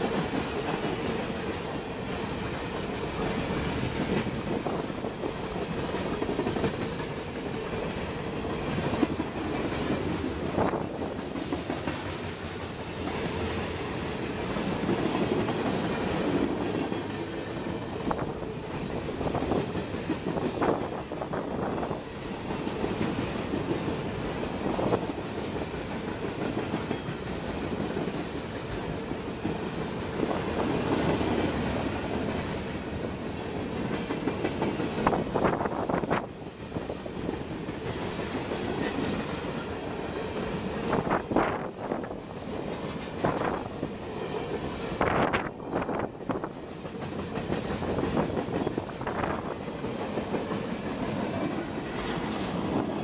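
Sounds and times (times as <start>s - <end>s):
train wheels clattering over rail joints: 0.0s - 53.0s.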